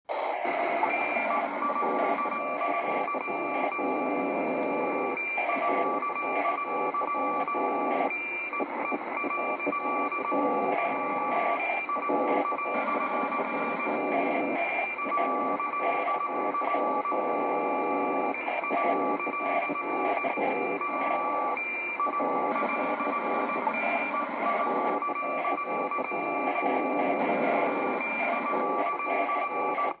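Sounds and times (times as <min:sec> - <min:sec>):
crackling electronic buzz: 0:00.1 - 0:30.0.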